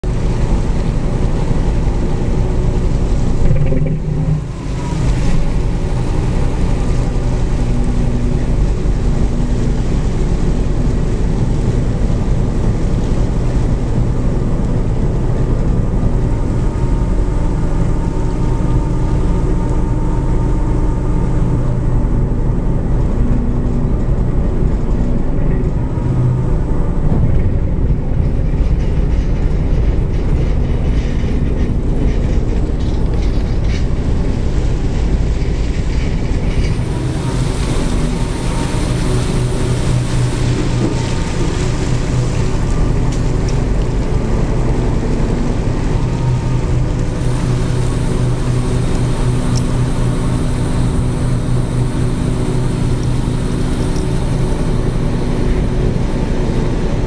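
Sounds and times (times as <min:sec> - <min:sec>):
ship diesel engines droning: 0:00.0 - 0:57.0.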